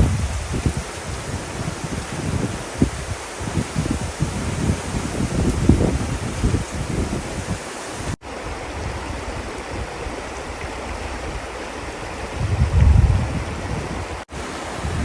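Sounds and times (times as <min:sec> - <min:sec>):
river water rushing: 0:00.0 - 0:15.0
wind rumble on microphone: 0:00.0 - 0:15.0.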